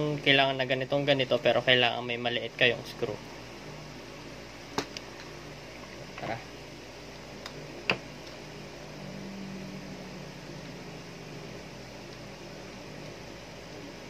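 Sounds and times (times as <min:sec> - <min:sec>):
low hum: 0:01.2 - 0:14.0.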